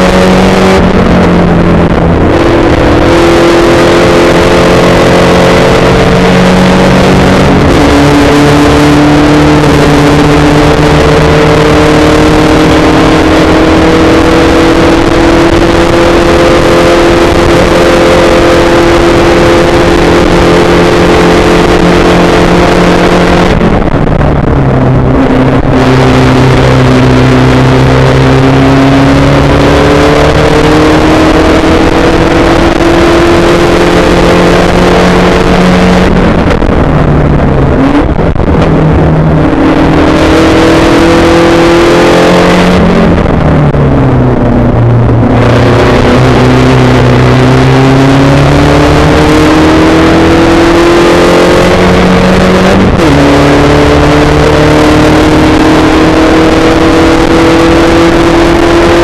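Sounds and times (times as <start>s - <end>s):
heavy rushing noise: 0.0s - 59.0s
race car engine at speed: 0.0s - 59.0s.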